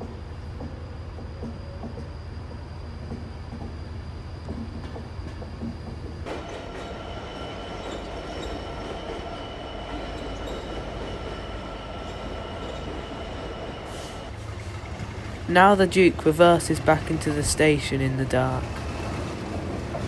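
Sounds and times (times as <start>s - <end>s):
train rumbling slowly: 0.0s - 20.0s.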